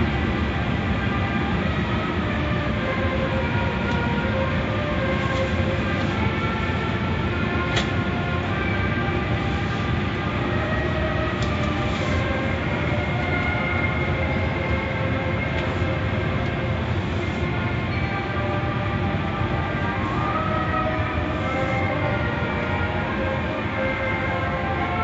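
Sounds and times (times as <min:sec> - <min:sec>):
car wash machinery running: 0:00.0 - 0:25.0.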